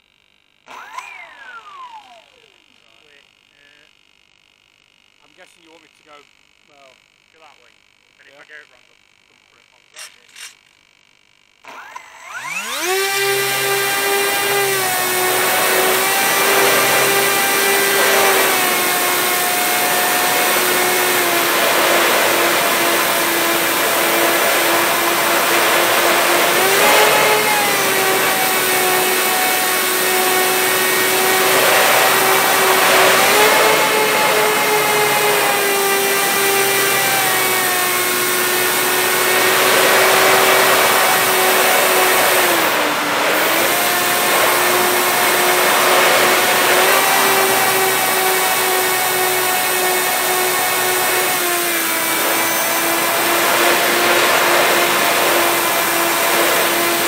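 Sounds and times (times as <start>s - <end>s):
model plane electric motors whining: 0.7s - 3.2s, 11.6s - 57.0s.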